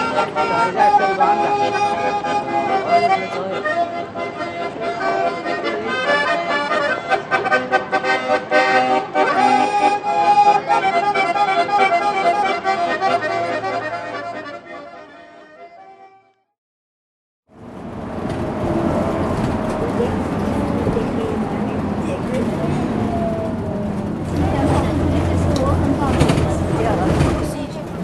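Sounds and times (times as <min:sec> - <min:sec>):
accordion playing lively tune: 0:00.0 - 0:16.5, 0:18.5 - 0:28.0.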